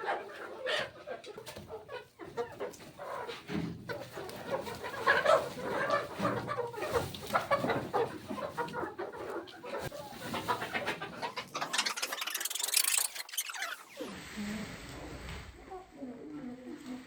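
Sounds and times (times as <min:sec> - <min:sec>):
chickens clucking: 0:00.0 - 0:14.1.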